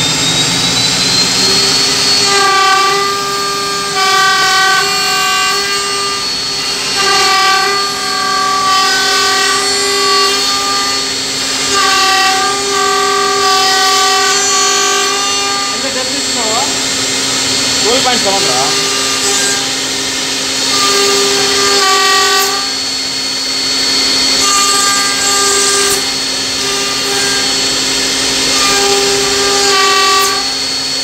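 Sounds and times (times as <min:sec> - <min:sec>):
machine running noise: 0:00.0 - 0:31.0
router spindle whining: 0:00.0 - 0:31.0.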